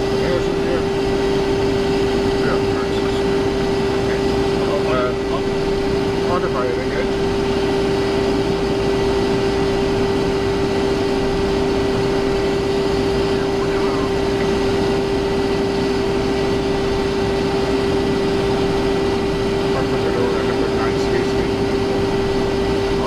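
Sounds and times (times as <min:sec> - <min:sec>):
jet cockpit airflow and engine hum: 0:00.0 - 0:23.0.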